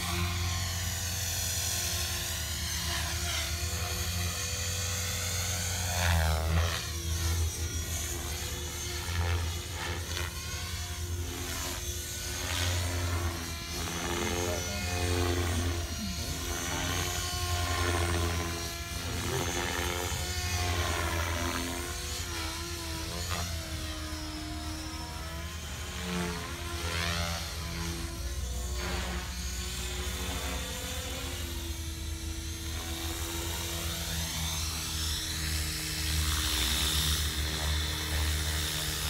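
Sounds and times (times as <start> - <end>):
model helicopter motor whine: 0.0 - 39.0.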